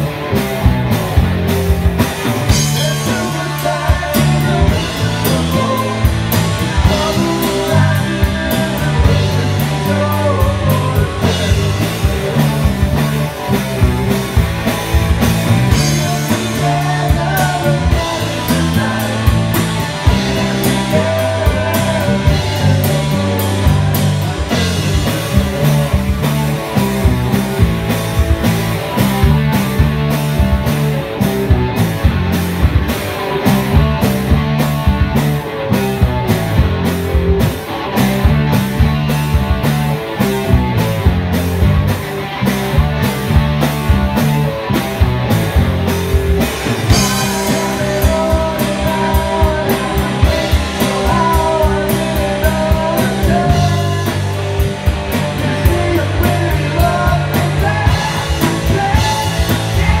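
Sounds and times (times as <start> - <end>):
live rock band playing: 0.0 - 60.0.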